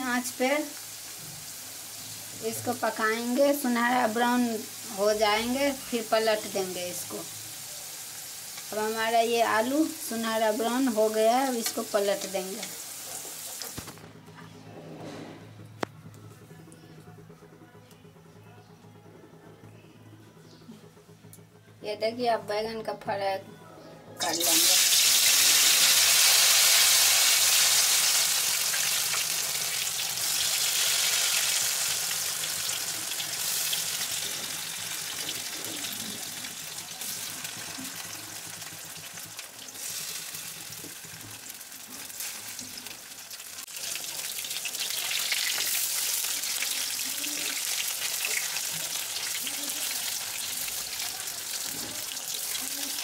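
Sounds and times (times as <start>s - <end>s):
battered vegetables sizzling in oil: 0.0s - 14.0s, 24.2s - 53.0s.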